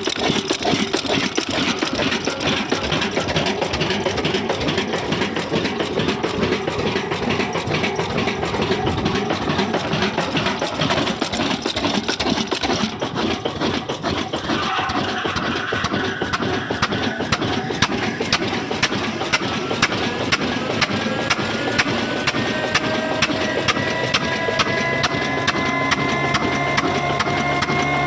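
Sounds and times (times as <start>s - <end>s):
diesel engine rhythmic beat: 0.0s - 28.0s
sharp ticks: 0.0s - 28.0s.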